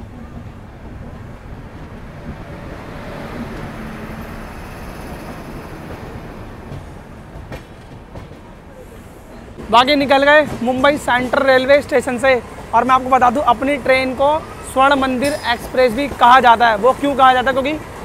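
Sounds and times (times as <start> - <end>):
train rolling on rails: 0.0 - 18.0.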